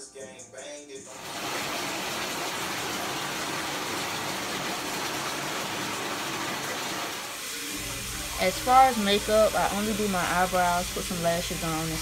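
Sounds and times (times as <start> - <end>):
running water rushing: 1.1 - 12.0.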